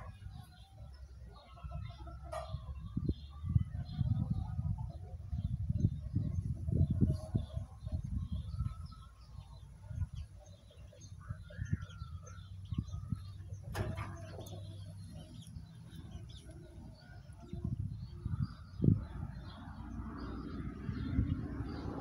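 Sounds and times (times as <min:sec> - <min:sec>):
birds chirping: 0:00.0 - 0:22.0
low microphone rumble: 0:00.0 - 0:22.0.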